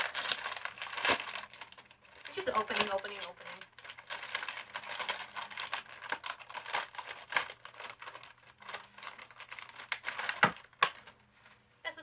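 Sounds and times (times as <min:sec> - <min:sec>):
plastic wrapper crinkling: 0:00.0 - 0:11.6.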